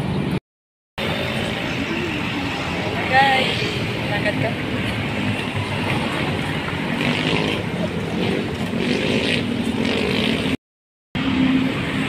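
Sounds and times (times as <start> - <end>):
road traffic passing: 0.0 - 0.4, 1.0 - 10.6, 11.2 - 12.0.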